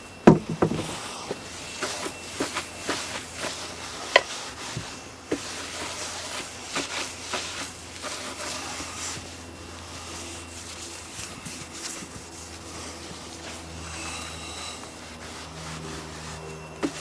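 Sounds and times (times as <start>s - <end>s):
steady low hum: 0.0s - 17.0s
rag rubbing: 0.3s - 17.0s.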